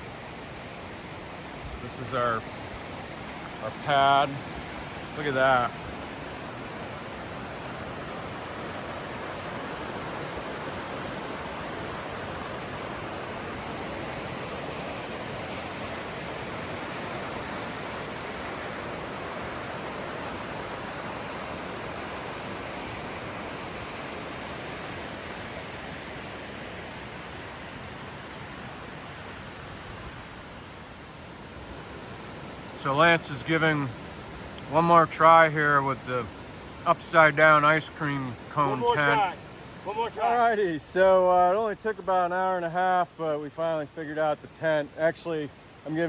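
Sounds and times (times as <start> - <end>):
river water rushing: 0.0 - 46.0.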